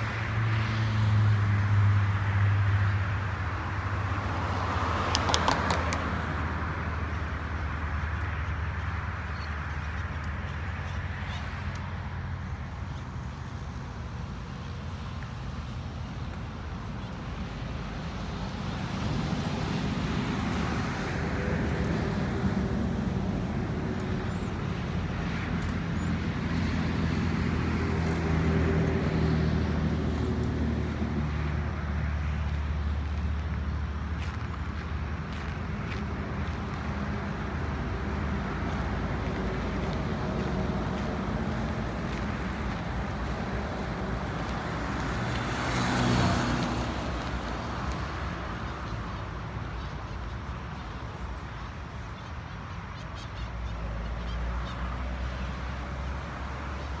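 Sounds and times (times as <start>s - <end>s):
road traffic hum: 0.0s - 57.0s
vehicles passing: 0.0s - 57.0s.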